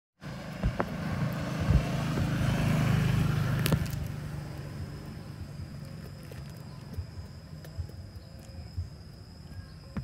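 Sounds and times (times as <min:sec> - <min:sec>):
passing vehicle engine hum: 0:00.2 - 0:10.0.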